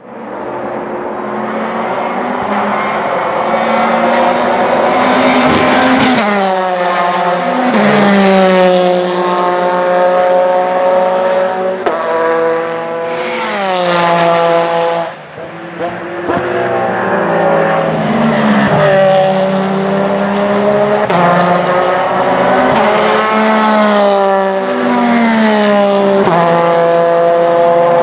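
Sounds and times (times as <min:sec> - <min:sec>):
racing car engine passing: 0:00.1 - 0:28.0.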